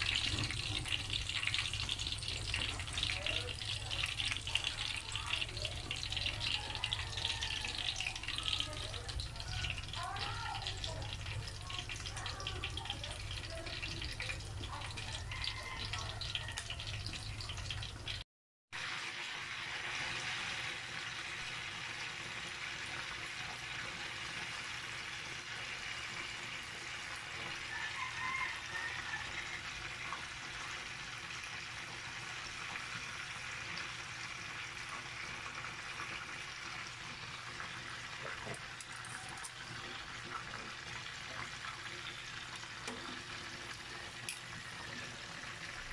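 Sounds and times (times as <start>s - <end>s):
oil sizzling in a pan: 0.0s - 18.2s, 18.8s - 45.9s.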